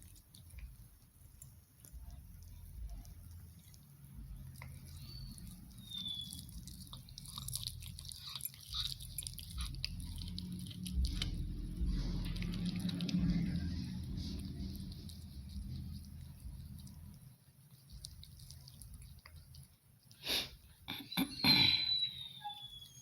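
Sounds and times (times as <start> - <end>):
cat chewing meat: 0.0 - 20.9.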